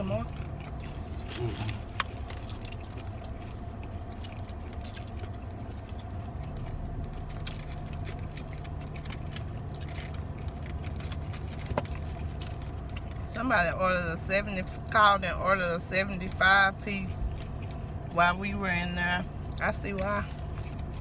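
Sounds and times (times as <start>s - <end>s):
car engine hum inside cabin: 0.0s - 21.0s
chewing and crunching food: 0.0s - 21.0s.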